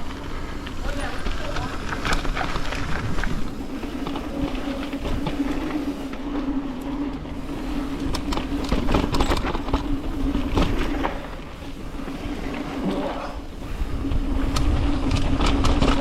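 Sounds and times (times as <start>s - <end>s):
bike knocking and rattling over bumps: 0.0s - 16.0s
constant low hum: 0.0s - 16.0s
rush of tyres and wind: 0.0s - 16.0s.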